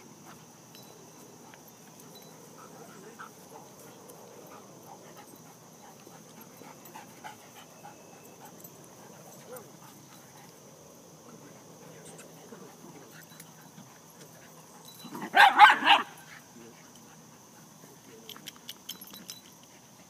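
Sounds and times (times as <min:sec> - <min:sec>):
dogs panting: 0:00.2 - 0:15.3, 0:16.2 - 0:20.0.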